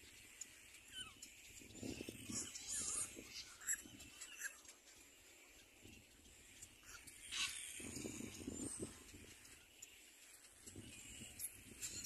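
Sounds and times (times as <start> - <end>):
birds calling: 0.0 - 12.0
high bird chirps: 0.0 - 12.0.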